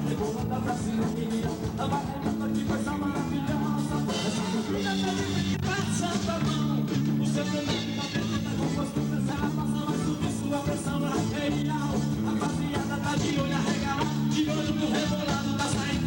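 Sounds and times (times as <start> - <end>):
band playing upbeat song: 0.0 - 16.0
stepping bass line: 0.0 - 16.0.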